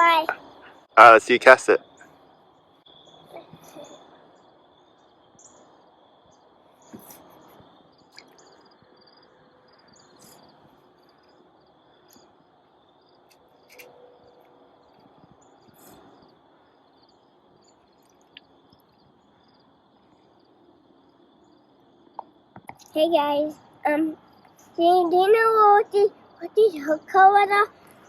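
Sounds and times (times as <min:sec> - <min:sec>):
high insect trill: 0:00.0 - 0:28.0.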